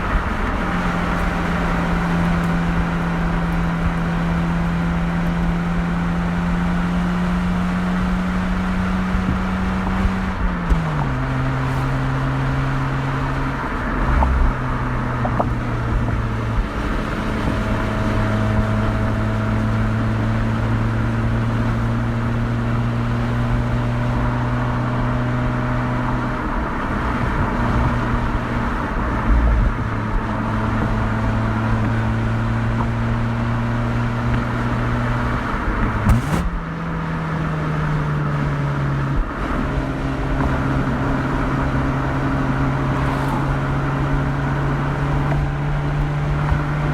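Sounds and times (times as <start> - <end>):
rotary engine droning: 0.0 - 46.9.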